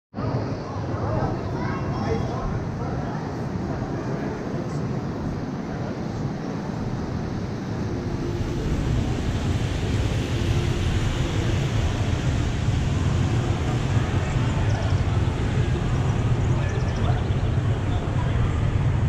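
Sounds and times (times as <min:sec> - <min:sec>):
rushing noise: 0:00.4 - 0:19.0
vehicle engine rumble: 0:03.2 - 0:19.0.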